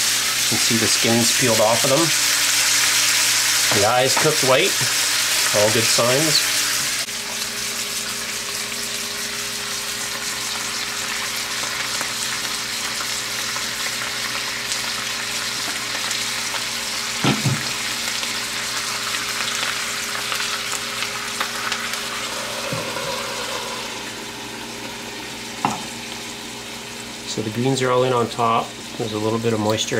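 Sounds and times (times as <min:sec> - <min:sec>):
fish sizzling in a skillet: 0:00.0 - 0:27.2.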